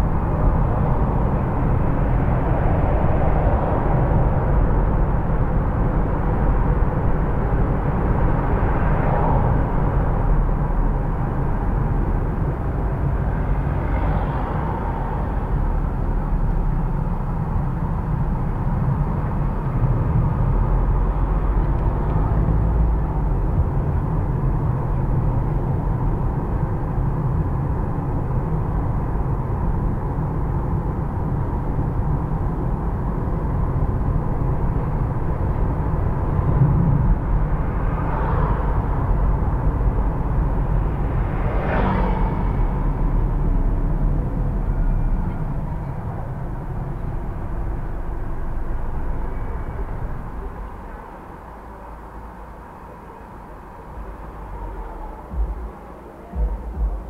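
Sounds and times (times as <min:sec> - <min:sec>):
car road rumble: 0:00.0 - 0:57.0
passing traffic: 0:00.0 - 0:57.0.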